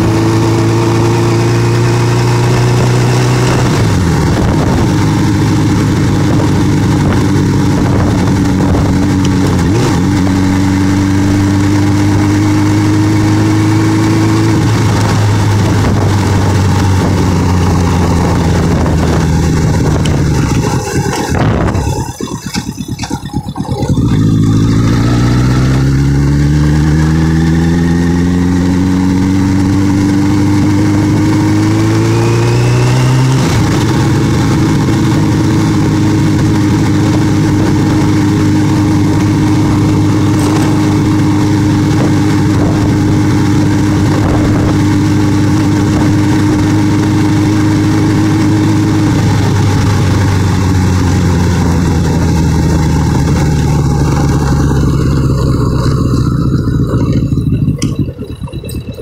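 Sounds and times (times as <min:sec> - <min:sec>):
motorcycle engine accelerating: 0:00.0 - 0:59.0
wind noise: 0:00.0 - 0:59.0.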